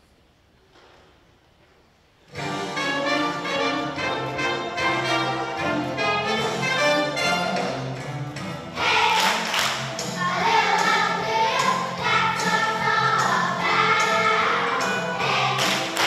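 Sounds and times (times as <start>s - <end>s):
brass band backing track: 2.3s - 16.0s.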